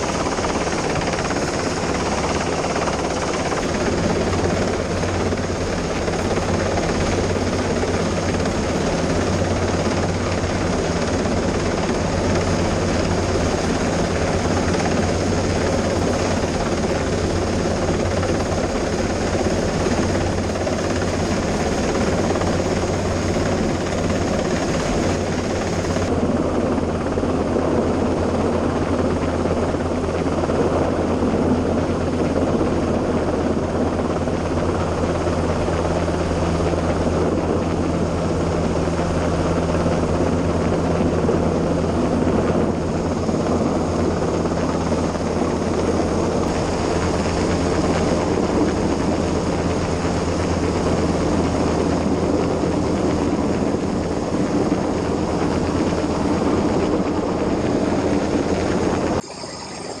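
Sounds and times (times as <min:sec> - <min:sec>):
helicopter hovering overhead: 0:00.0 - 1:00.0.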